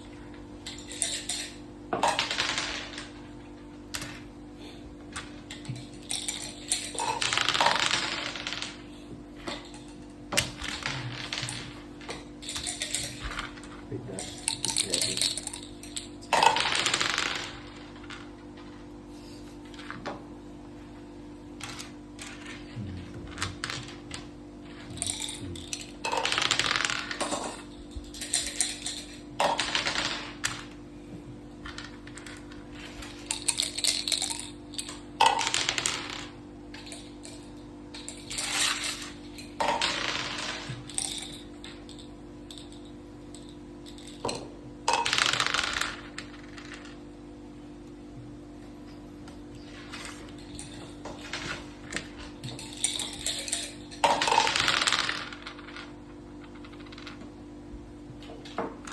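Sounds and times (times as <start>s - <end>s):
steady low hum: 0.0s - 58.9s
dice rattling: 0.6s - 3.4s, 5.2s - 8.8s, 9.4s - 18.7s, 21.6s - 30.8s, 31.6s - 47.1s, 49.7s - 57.2s
game pieces clacking on a board: 0.6s - 4.3s, 5.1s - 18.4s, 21.6s - 30.8s, 31.6s - 47.1s, 49.6s - 57.3s.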